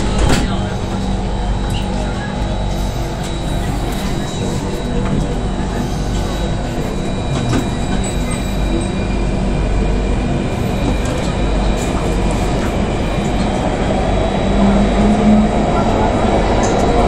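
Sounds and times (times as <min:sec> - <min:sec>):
metro train noise: 0:00.0 - 0:17.0.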